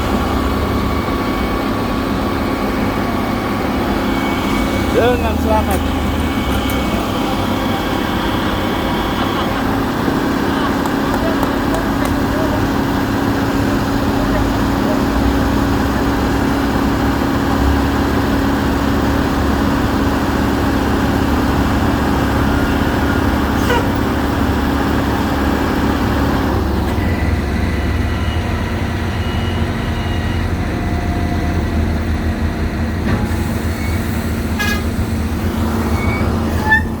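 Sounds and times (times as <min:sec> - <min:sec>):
heavy engine running: 0:00.0 - 0:37.0.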